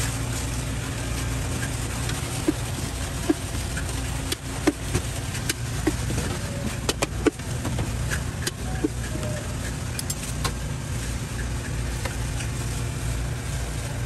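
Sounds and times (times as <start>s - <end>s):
street stall hum: 0.0s - 14.0s.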